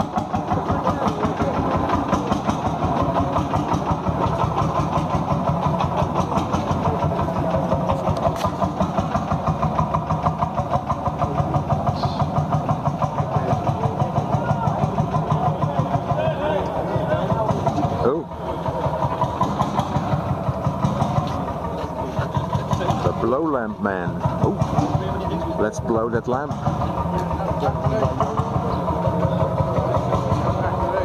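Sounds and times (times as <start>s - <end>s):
tractor engine idling: 0.0s - 31.0s.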